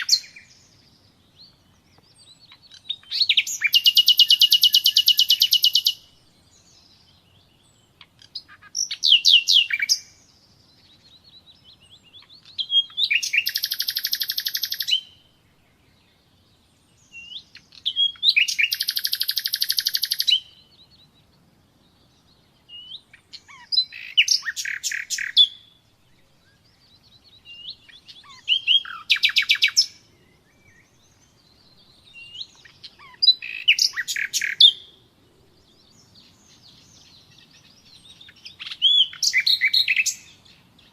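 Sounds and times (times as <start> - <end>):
nightingale singing: 0.0 - 40.9.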